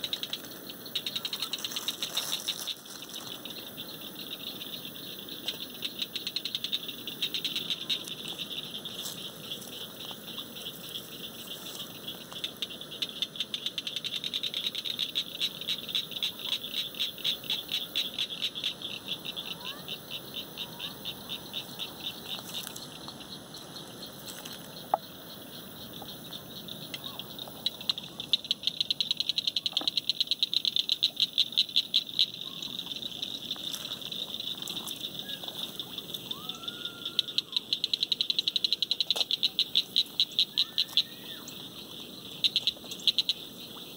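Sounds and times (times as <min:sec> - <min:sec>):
frogs or insects trilling: 0:00.0 - 0:43.9.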